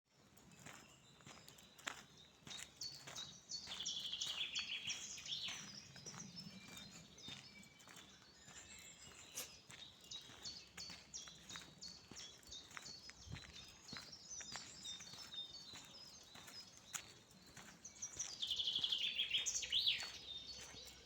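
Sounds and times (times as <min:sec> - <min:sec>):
songbirds chirping and whistling: 0:00.2 - 0:21.0.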